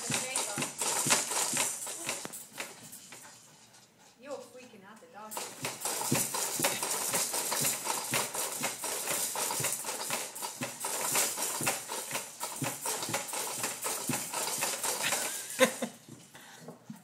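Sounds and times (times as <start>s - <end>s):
baby jumper rattling and clacking: 0.0s - 4.5s, 5.3s - 16.3s.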